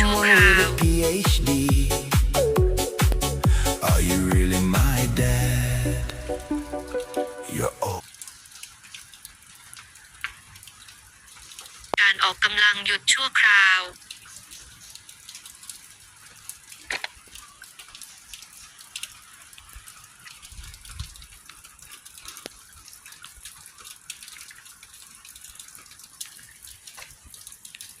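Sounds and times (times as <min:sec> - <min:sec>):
rain pattering: 0:00.0 - 0:28.0
raindrops ticking on surfaces: 0:00.0 - 0:28.0.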